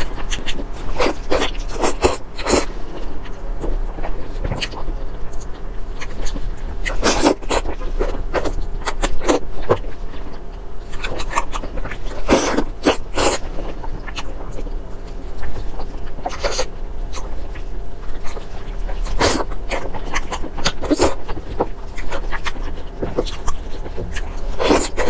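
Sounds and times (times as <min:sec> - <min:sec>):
steady low hum: 0:00.0 - 0:25.0
wet chewing and sucking sounds: 0:00.0 - 0:25.0.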